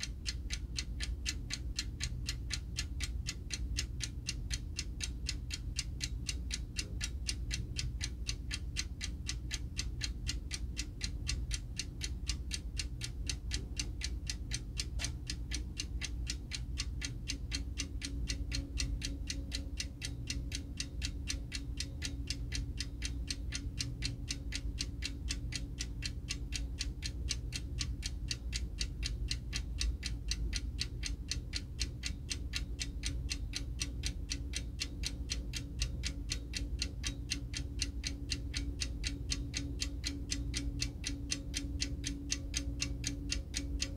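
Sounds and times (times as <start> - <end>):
alarm clock ticking quickly: 0.0 - 43.9
low steady hum: 0.0 - 43.9.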